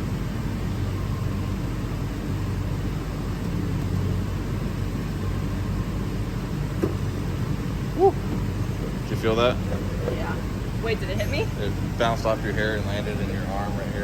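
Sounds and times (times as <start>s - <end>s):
machine hum and whirring: 0.0s - 14.0s.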